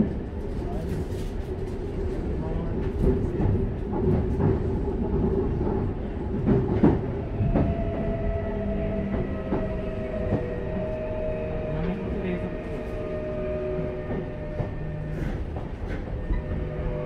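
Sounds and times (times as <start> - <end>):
subway car rumble: 0.0 - 17.0.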